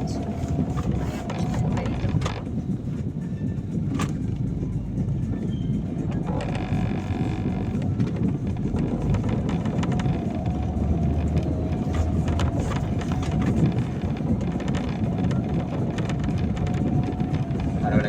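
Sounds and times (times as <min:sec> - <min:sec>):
car rumble on wet road: 0:00.0 - 0:18.0.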